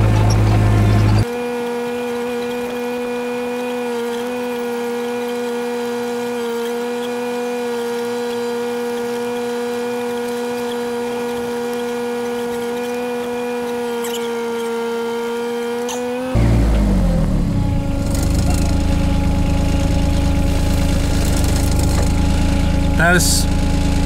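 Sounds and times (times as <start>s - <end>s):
excavator engine whining: 0.0s - 24.0s.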